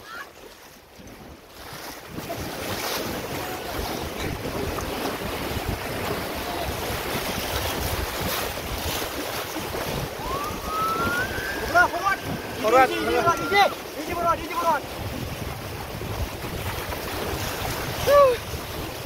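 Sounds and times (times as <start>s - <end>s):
river water rushing and splashing: 0.0s - 19.0s
wind buffeting microphone: 0.9s - 19.0s.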